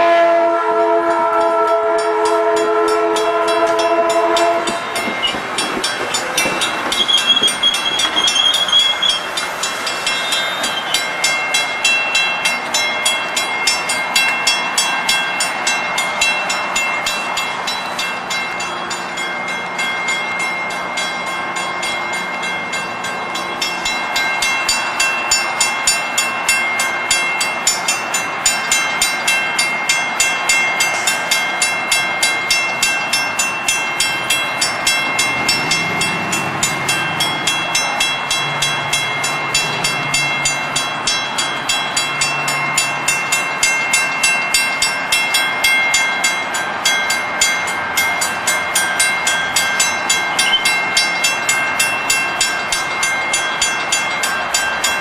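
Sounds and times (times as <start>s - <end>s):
passing train: 0.0s - 55.0s
railroad crossing bell ringing: 0.0s - 55.0s.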